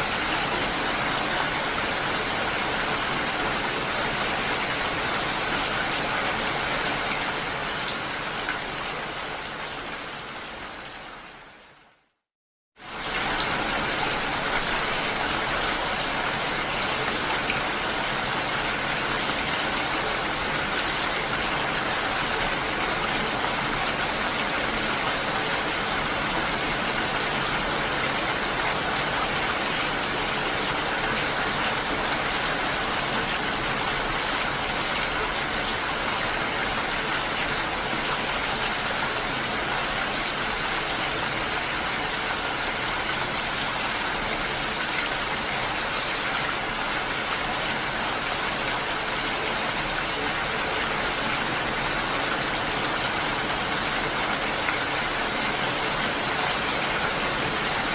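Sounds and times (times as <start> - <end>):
steady rain patter: 0.0 - 12.2, 12.8 - 57.9.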